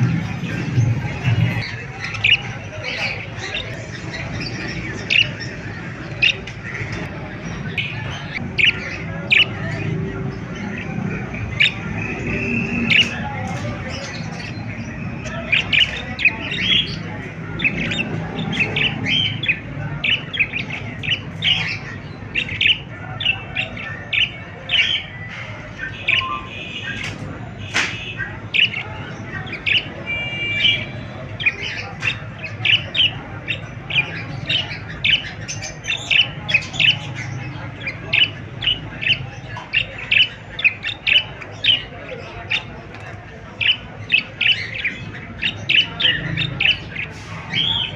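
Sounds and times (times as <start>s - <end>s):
parrots chirping and squawking: 0.0s - 47.9s.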